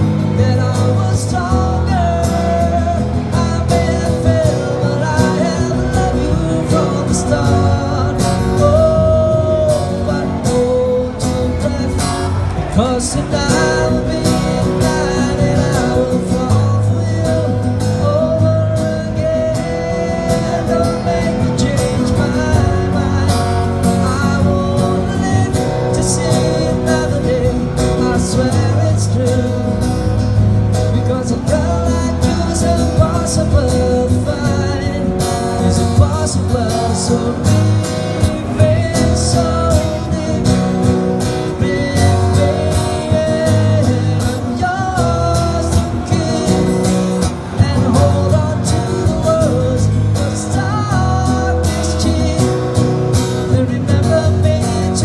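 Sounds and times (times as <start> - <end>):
acoustic guitars playing: 0.0 - 55.0
man singing: 0.0 - 55.0.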